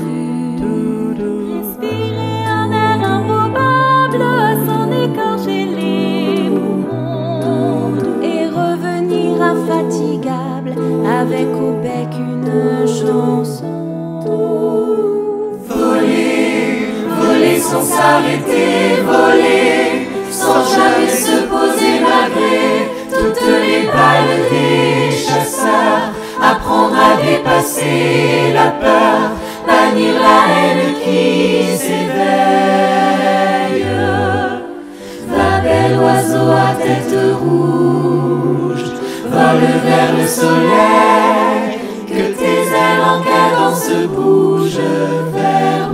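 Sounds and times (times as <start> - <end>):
mixed choir singing in harmony: 0.0 - 45.9.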